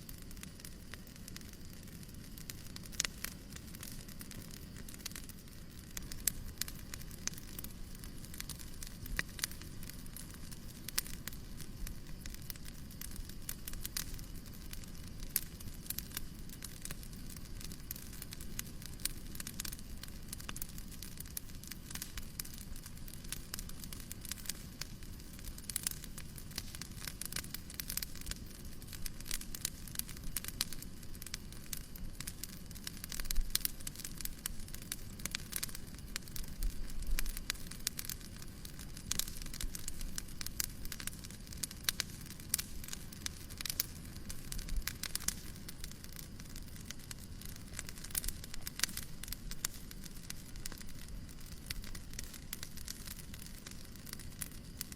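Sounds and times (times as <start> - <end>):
white noise hiss: 0.0 - 54.9
wood fire crackling: 0.0 - 54.9.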